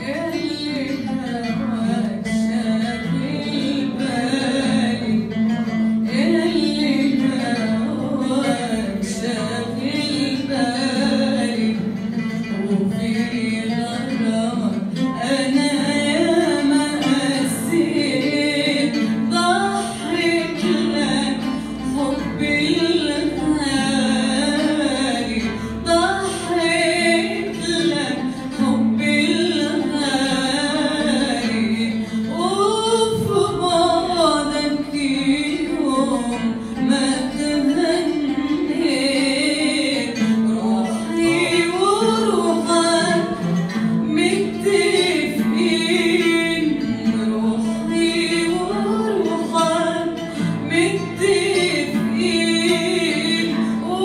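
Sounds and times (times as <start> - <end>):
oud plucked notes: 0.0 - 54.0
woman singing: 0.0 - 54.0.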